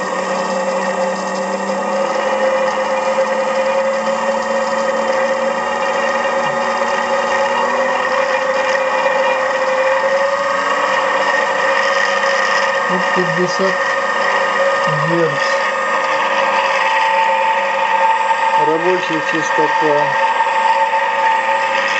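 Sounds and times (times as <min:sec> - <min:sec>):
electric motor whirring: 0:00.0 - 0:21.9.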